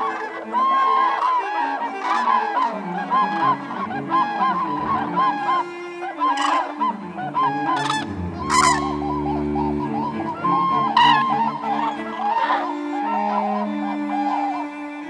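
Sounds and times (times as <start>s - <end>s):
cranes trumpeting calls: 0.0s - 15.0s.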